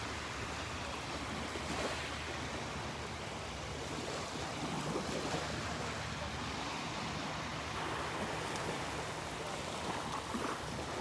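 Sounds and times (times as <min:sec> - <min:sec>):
small surf breaking on beach: 0:00.0 - 0:11.0.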